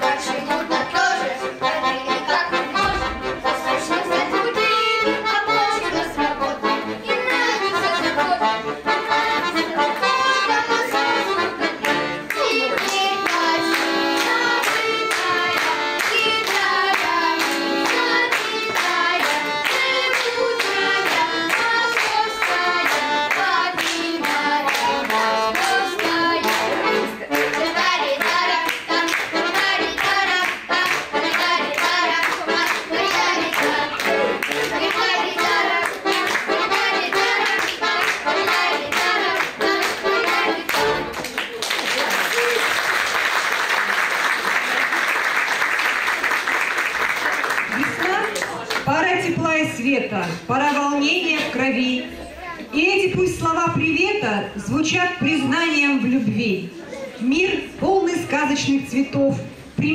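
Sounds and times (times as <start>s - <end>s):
accordion duet folk dance: 0.0s - 41.6s, 46.0s - 56.4s.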